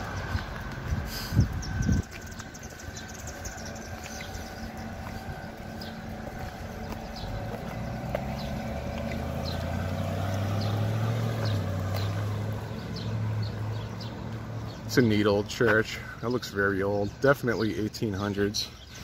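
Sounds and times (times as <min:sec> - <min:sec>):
small birds chirping: 0:00.0 - 0:19.0
vehicle engine hum: 0:00.0 - 0:19.0.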